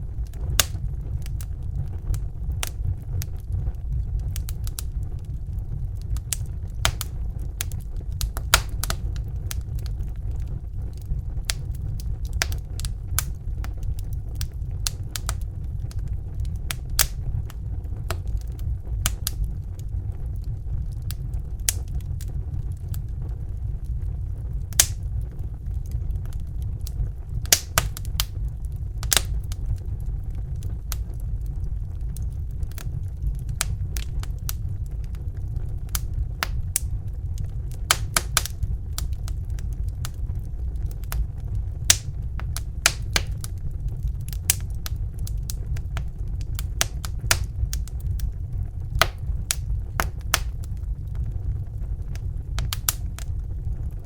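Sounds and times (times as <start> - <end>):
fire crackling and popping: 0.0 - 54.0
low rumble of fire: 0.0 - 54.0.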